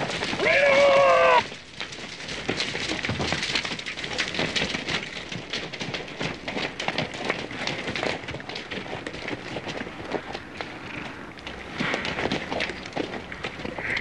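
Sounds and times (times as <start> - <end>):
galloping hoofbeats on dirt: 0.0 - 14.0.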